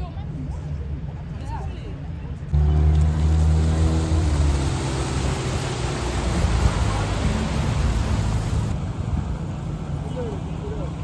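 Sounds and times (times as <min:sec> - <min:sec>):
traffic rush: 0:00.0 - 0:11.0
vehicle engine hum: 0:00.0 - 0:11.0.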